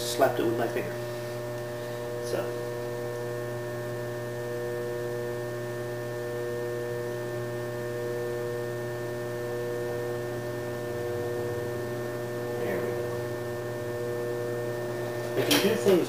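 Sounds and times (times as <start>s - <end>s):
potter's wheel motor humming: 0.0s - 16.0s.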